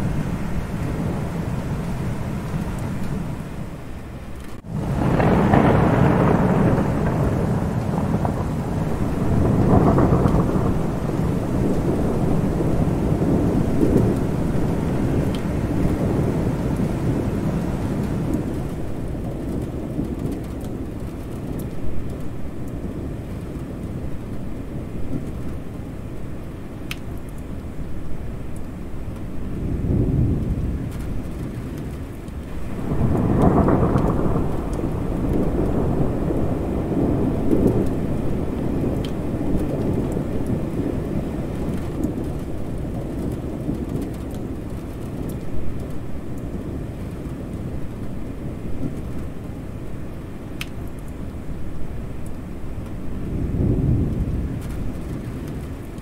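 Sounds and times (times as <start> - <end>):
low rolling thunder: 0.0 - 56.0
steady rain: 0.0 - 56.0.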